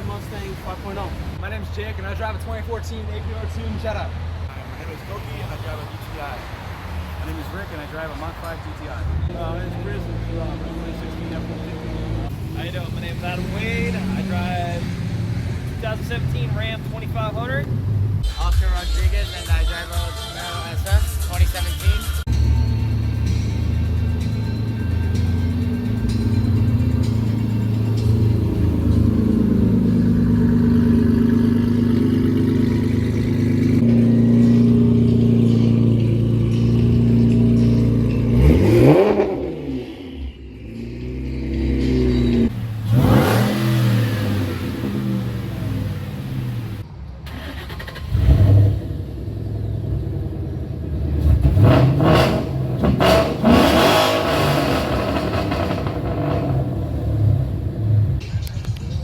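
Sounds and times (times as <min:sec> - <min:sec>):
car engines revving hard: 0:00.0 - 0:18.2, 0:22.2 - 0:58.2
car engine rumble: 0:00.0 - 0:18.9, 0:20.5 - 0:59.0.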